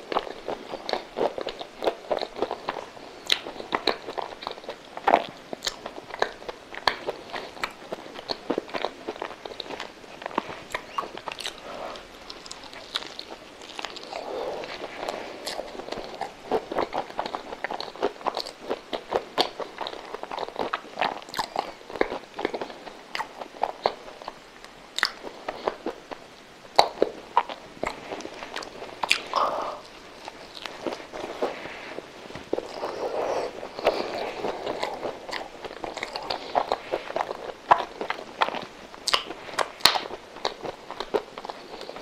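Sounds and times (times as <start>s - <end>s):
person chewing with lip smacks: 0.0s - 42.0s.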